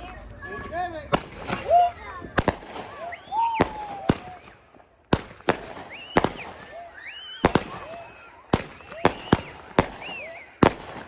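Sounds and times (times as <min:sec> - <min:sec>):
firework bangs: 0:01.0 - 0:11.0
firework whistling: 0:01.1 - 0:11.0.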